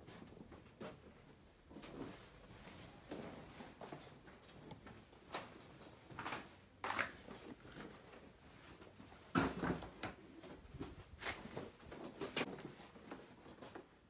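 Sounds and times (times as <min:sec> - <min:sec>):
footsteps: 0:00.0 - 0:13.8.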